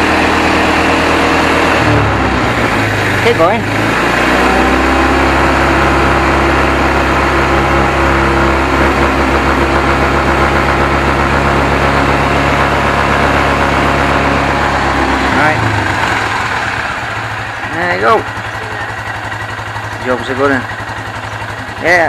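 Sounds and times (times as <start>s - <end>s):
atv engine at raised revs: 0.0s - 22.0s.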